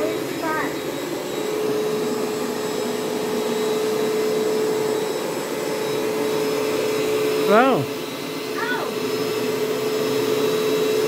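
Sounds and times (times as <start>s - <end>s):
vacuum suction rushing: 0.0s - 10.7s
carpet cleaner motor whine: 0.0s - 11.0s.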